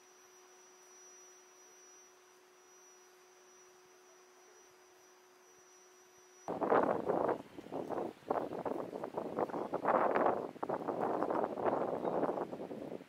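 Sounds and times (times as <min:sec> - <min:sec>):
faint steady hum and hiss: 0:00.0 - 0:13.0.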